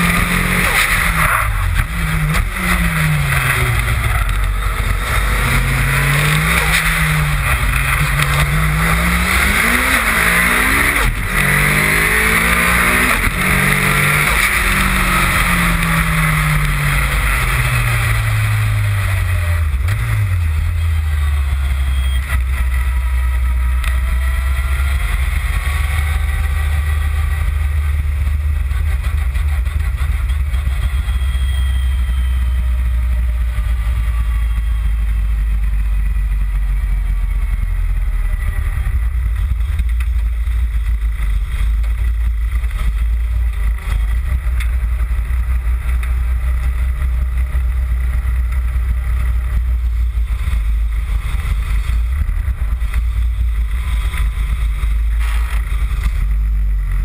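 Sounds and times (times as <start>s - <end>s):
car engine running: 0.0s - 57.0s
wind and road noise: 0.0s - 57.0s.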